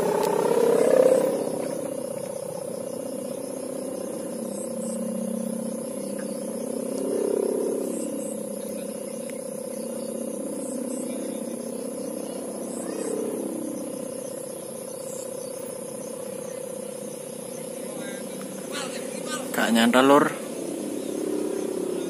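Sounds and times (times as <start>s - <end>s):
kite hummer droning: 0.0s - 22.0s
low wavering hum: 0.0s - 22.0s.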